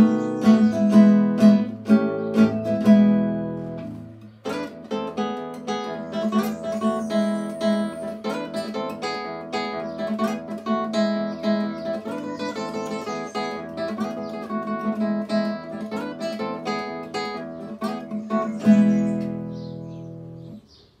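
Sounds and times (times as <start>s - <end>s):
fingerstyle classical guitar: 0.0s - 20.8s.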